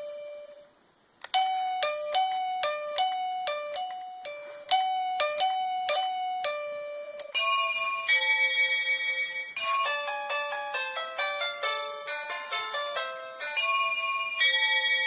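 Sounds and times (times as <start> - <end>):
electronic doorbell chime tunes: 0.0 - 0.7, 1.4 - 15.0.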